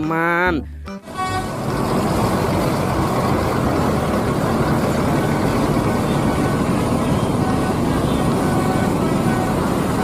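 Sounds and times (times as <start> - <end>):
truck engine low rumble: 0.4 - 10.0.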